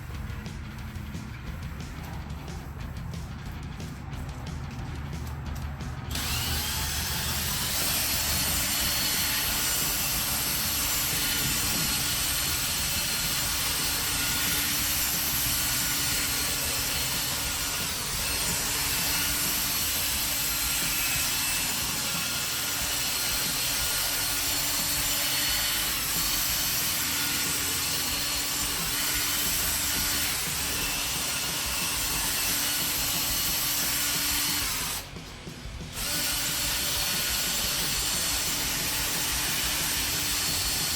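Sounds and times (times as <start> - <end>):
drill polishing pad whirring: 6.1 - 40.9.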